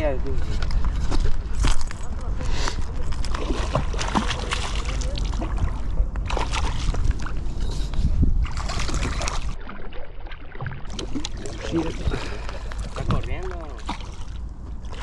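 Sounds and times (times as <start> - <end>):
steady low rumble: 0.0 - 9.9, 10.8 - 15.0
water splashing and sloshing: 0.0 - 15.0.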